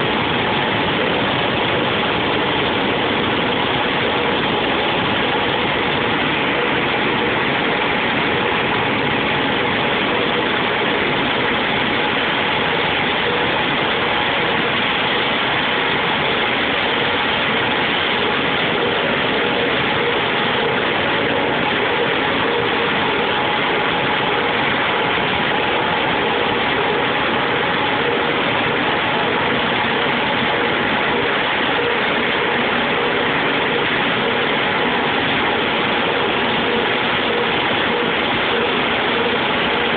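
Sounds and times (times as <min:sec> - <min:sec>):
machine running steadily: 0:00.0 - 0:39.9.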